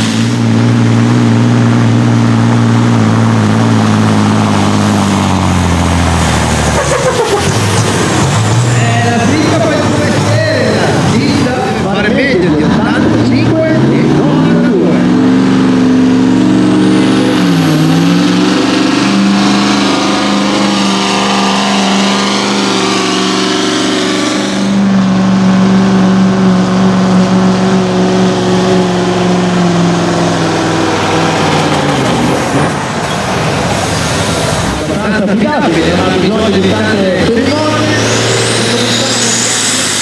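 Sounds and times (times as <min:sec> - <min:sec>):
diesel truck engine at full throttle: 0:00.0 - 0:40.0.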